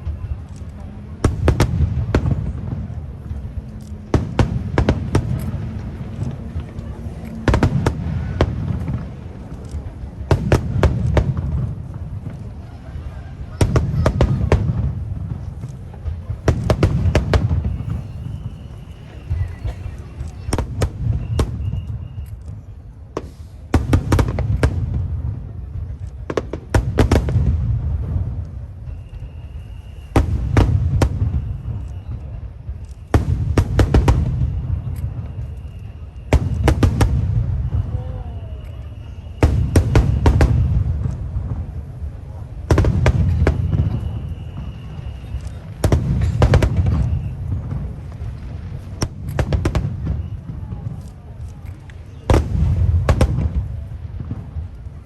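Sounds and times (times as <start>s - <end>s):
continuous low rumble: 0.0s - 55.0s
fireworks bursting: 0.0s - 55.0s.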